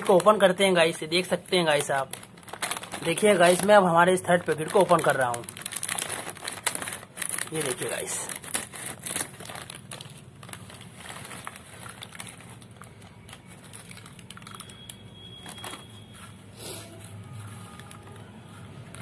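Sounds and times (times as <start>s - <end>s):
plastic snack packet crinkling: 0.0s - 16.1s, 17.2s - 19.0s.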